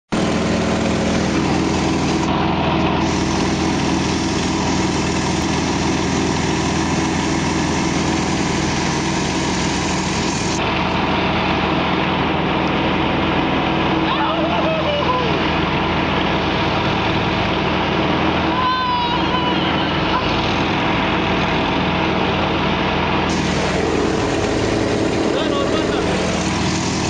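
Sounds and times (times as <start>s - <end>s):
aircraft engine droning in flight: 0.1s - 27.0s.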